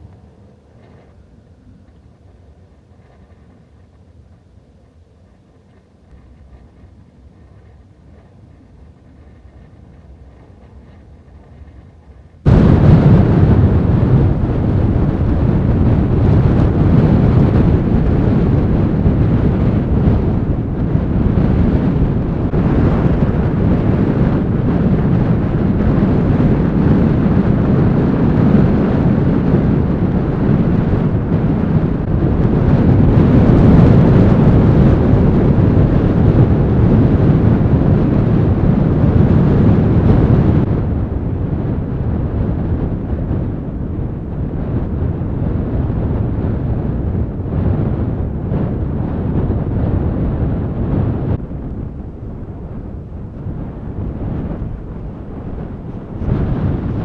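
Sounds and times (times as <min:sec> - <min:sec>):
blizzard wind buffeting microphone: 0:00.0 - 0:57.0.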